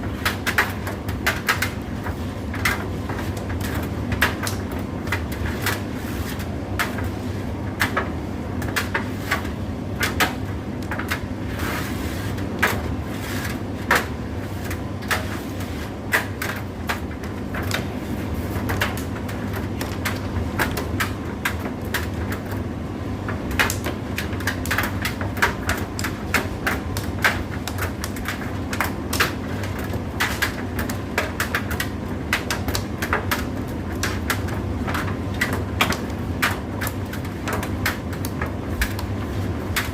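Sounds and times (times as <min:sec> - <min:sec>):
tumble dryer motor hum: 0:00.0 - 0:39.9.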